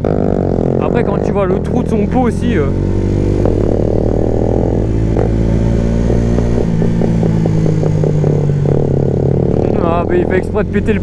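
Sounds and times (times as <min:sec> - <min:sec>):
exhaust pops crackling: 0:00.0 - 0:11.0
motorcycle engine running: 0:00.0 - 0:11.0.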